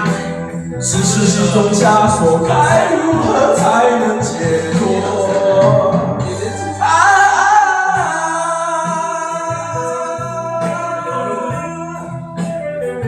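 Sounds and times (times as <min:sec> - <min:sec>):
pop ballad full band: 0:00.0 - 0:13.0.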